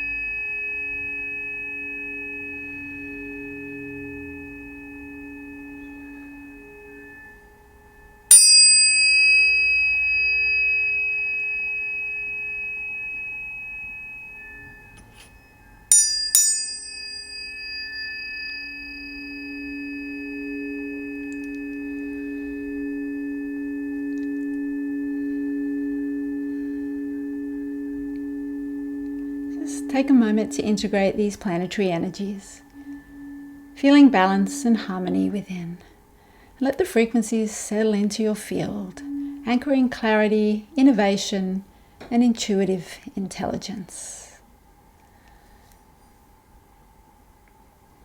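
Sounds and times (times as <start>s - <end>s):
tuning fork strike tap: 0.0s - 36.0s, 38.0s - 41.1s
tuning forks ringing: 0.0s - 48.0s.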